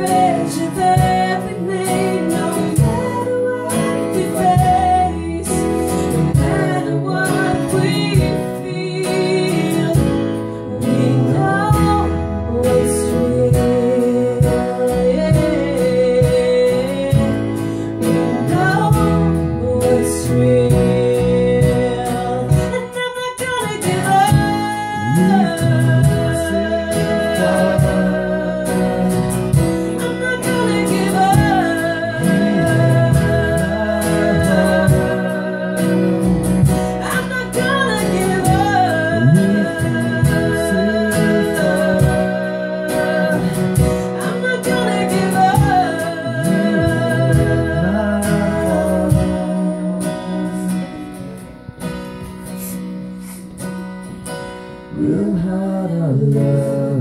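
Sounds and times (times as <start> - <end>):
electronic keyboard: 0.0 - 57.0
woman singing into a microphone: 0.0 - 57.0.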